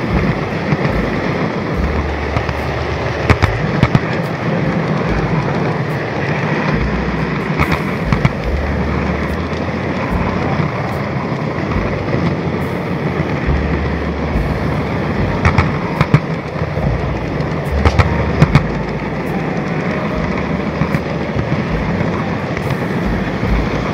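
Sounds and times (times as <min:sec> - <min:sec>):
wheels clicking over rail joints: 0:00.0 - 0:23.9.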